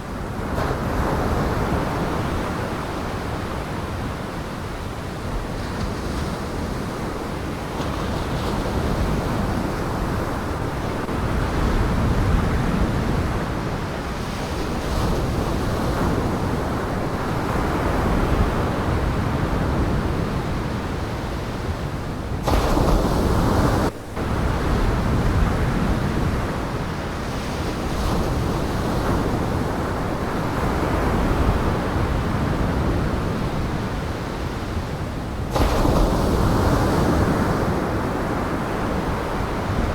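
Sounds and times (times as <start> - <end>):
high wind: 0.0 - 39.9.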